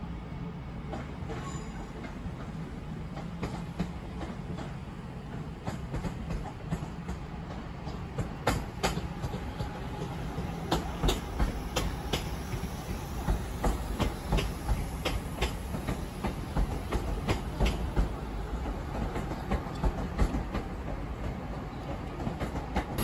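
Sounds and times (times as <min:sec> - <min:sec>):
train rolling with low rumble: 0:00.0 - 0:23.0
train wheels clacking over rail joints: 0:00.9 - 0:23.0.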